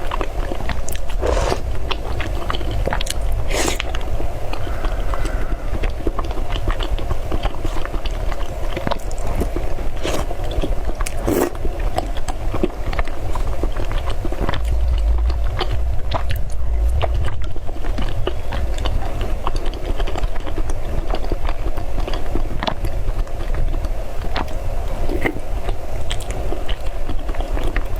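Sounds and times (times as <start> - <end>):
person chewing: 0.0 - 16.4, 17.8 - 27.9.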